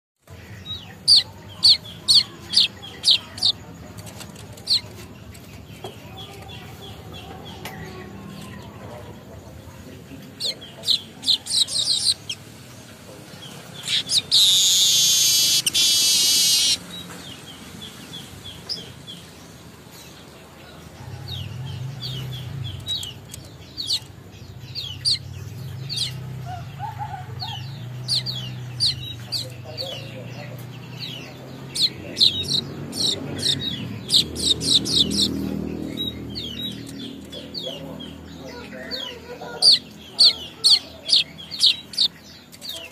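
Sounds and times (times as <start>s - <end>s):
caged birds chirping: 0.2s - 42.9s
wheezy buzzing bird song: 0.2s - 42.9s.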